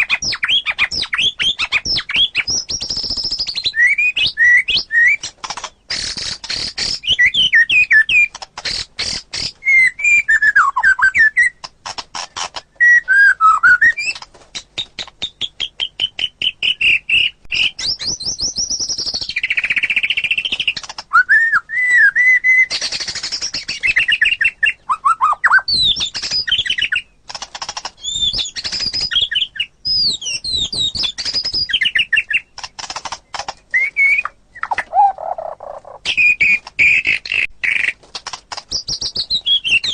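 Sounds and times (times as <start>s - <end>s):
songbird singing varied song: 0.0s - 38.0s, 38.6s - 39.9s.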